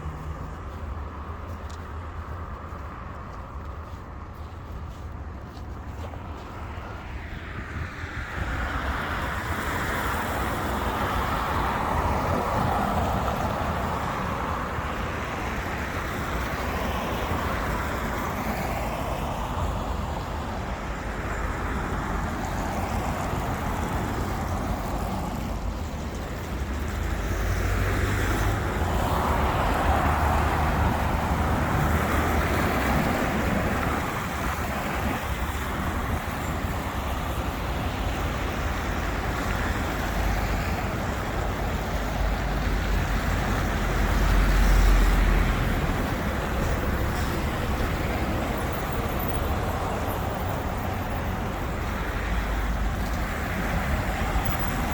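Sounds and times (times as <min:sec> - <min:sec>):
low traffic rumble: 0:00.0 - 0:54.9
passing cars: 0:00.0 - 0:54.9.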